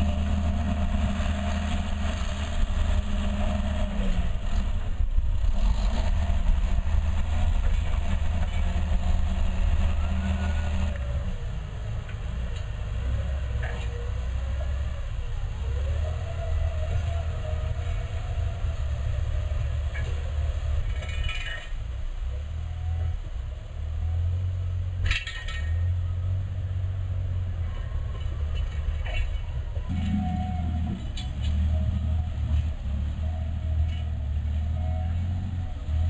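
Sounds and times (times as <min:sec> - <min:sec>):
bulldozer diesel engine rumbling: 0:00.0 - 0:36.0.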